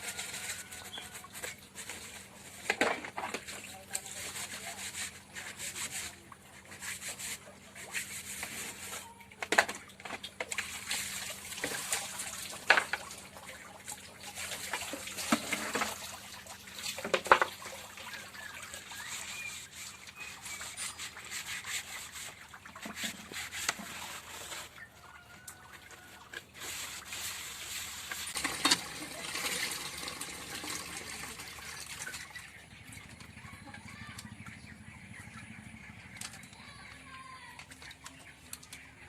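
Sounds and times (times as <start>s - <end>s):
water trickling and splashing: 0.0s - 39.0s.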